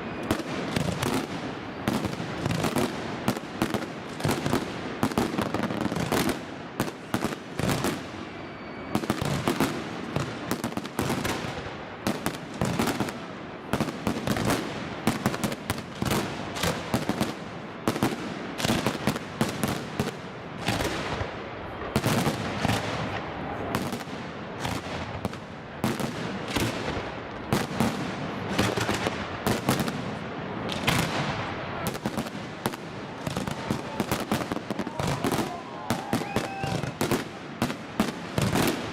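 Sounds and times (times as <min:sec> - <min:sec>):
fireworks bursts and crackling bangs: 0:00.0 - 0:38.9.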